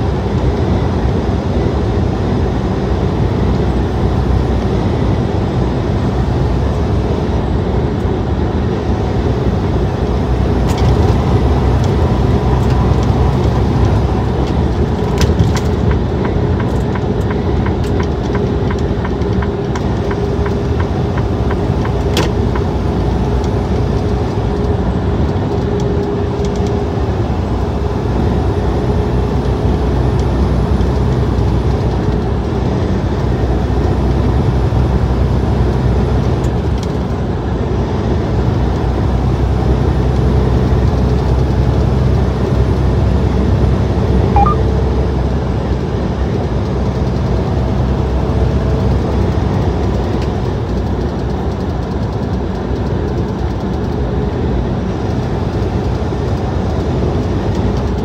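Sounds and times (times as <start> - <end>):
truck engine and tyres droning: 0.0 - 58.0.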